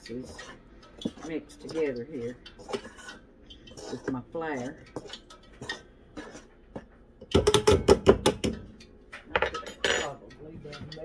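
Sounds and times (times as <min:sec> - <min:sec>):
utensils clinking against a bowl: 0:00.0 - 0:11.0.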